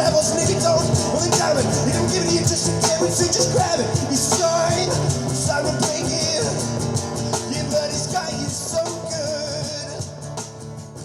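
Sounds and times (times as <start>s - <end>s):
acoustic rock band playing live: 0.0s - 11.0s.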